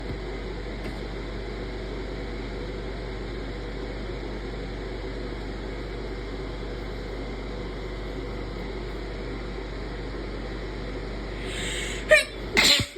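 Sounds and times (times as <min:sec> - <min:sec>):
room noise hum and hiss: 0:00.0 - 0:12.9.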